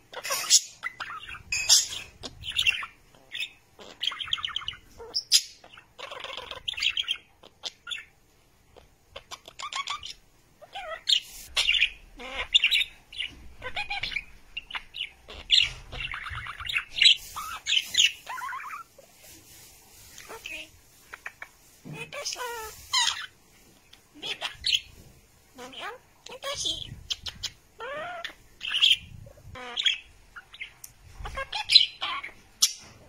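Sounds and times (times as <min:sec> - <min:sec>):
budgerigars chirping and squawking: 0:00.0 - 0:33.0.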